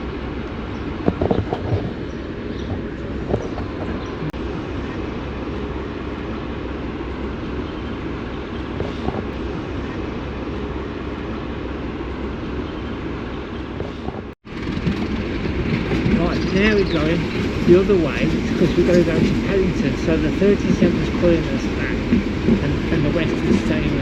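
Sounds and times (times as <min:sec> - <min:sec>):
train coach rumbling: 0:00.0 - 0:24.0.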